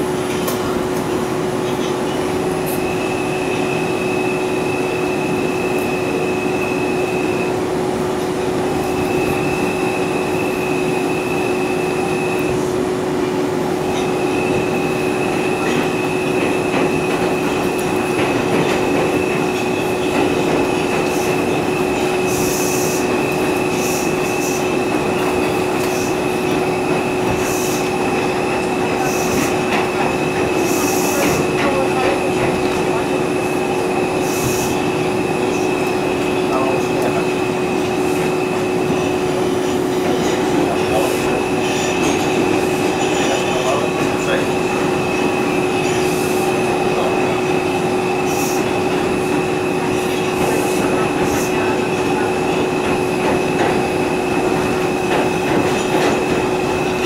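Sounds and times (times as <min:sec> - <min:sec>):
subway wheels rumbling on rail: 0:00.0 - 0:57.0.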